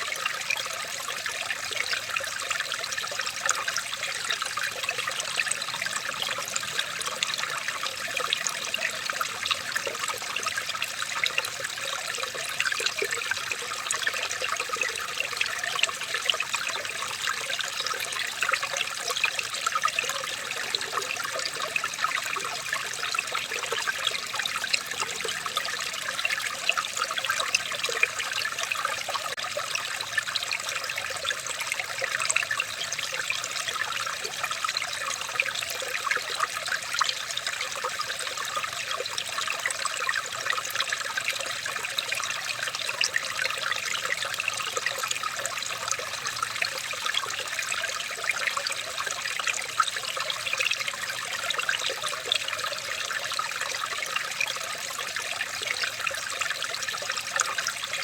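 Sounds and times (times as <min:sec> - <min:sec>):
water trickling in a stream: 0:00.0 - 0:58.0.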